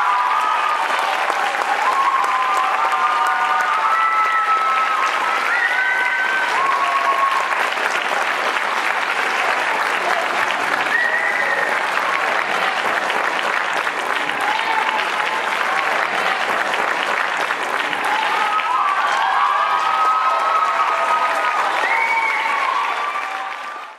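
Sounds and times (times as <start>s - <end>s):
audience applauding: 0.0s - 23.9s
audience cheering: 0.0s - 23.9s.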